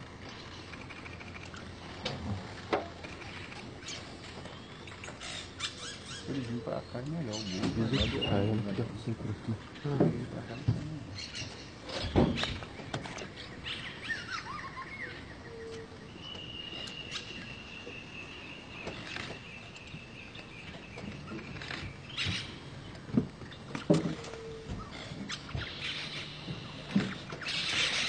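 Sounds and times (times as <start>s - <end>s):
steady background hiss: 0.0s - 28.0s
wild birds calling: 0.0s - 28.0s.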